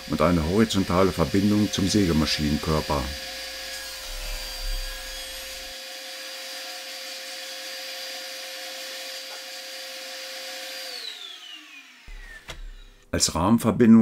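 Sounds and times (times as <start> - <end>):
saw spinning down: 0.0 - 13.1
table saw running: 0.0 - 13.2.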